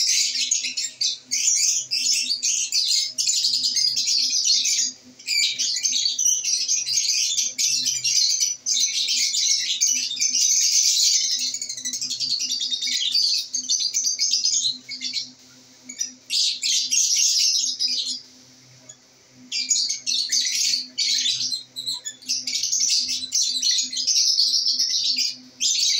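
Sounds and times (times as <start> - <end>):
lovebirds chattering: 0.0 - 25.9.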